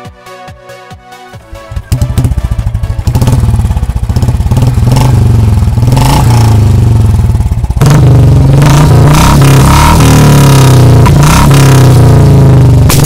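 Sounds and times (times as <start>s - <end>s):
motorcycle engine running: 1.5s - 13.0s.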